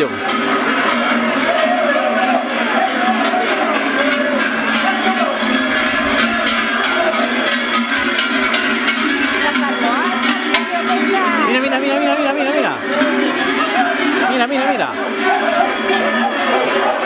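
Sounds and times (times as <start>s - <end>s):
hooves running on pavement: 0.0s - 14.4s
cattle bells clanging: 0.0s - 17.0s
crowd voices: 0.0s - 17.0s.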